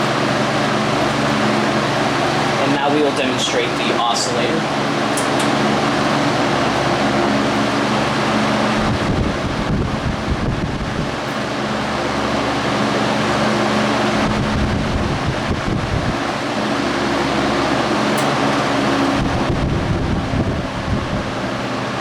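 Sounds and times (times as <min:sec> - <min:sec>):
air rumbling on microphone: 0:00.0 - 0:22.0
fan air rushing: 0:00.0 - 0:22.0
low motor hum: 0:00.0 - 0:22.0.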